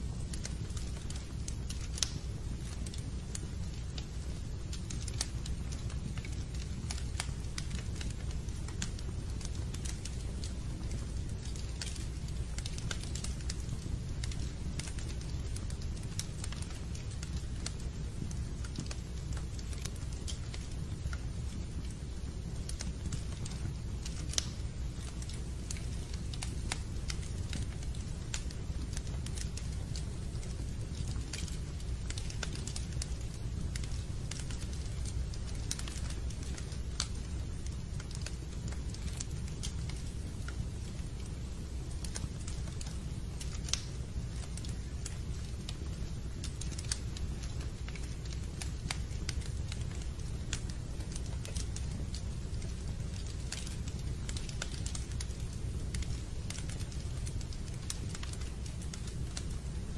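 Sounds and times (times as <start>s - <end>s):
fire crackles and pops: 0.0s - 59.9s
fire rumbling: 0.0s - 59.9s.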